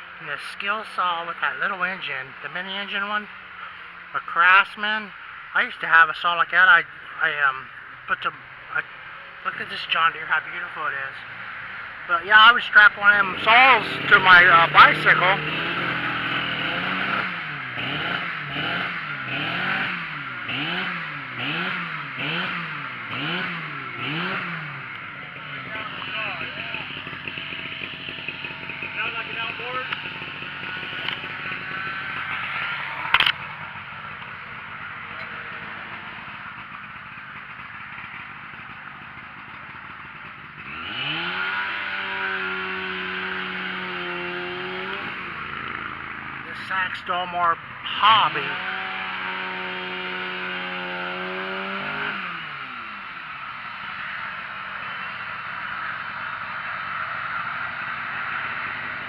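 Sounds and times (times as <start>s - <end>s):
chainsaw engine revving: 6.8s - 59.0s.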